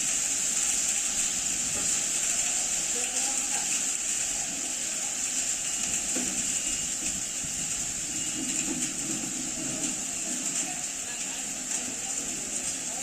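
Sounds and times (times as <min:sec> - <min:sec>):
heavy rain on road: 0:00.0 - 0:13.0.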